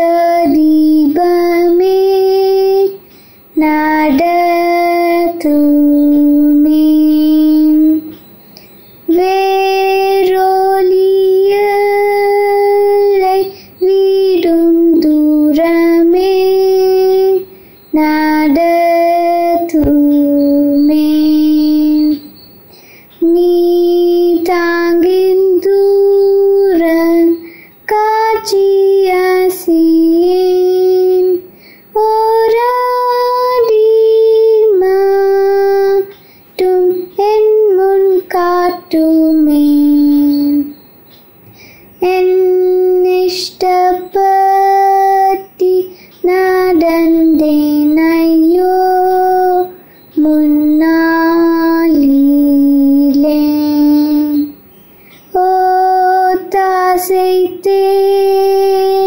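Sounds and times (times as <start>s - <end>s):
girl singing unaccompanied: 0.0s - 40.9s, 41.5s - 59.0s.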